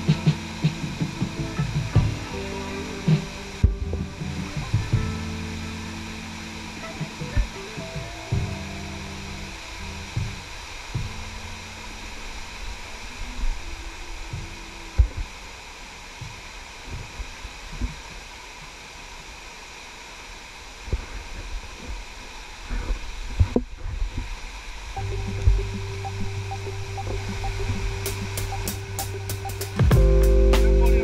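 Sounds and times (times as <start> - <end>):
waterfall rushing over rock: 0.0 - 29.9.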